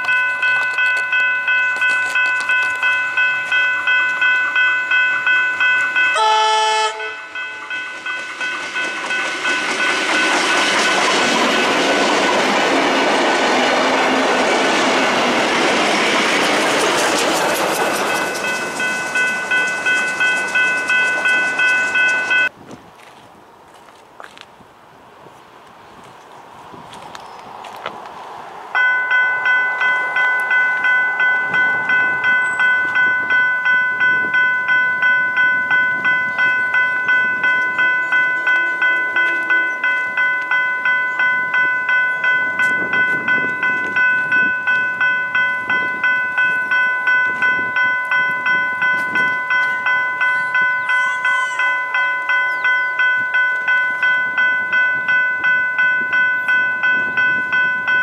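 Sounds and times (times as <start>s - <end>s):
railway crossing bell ringing: 0.0s - 22.6s, 28.7s - 58.0s
steam train approaching: 0.0s - 22.6s, 26.9s - 58.0s.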